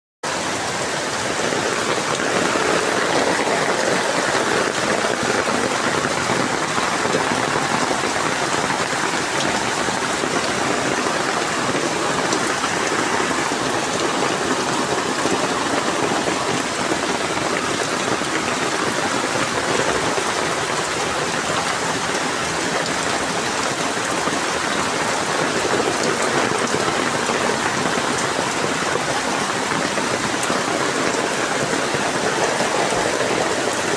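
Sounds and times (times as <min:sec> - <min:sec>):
rain pouring: 0:00.2 - 0:33.9.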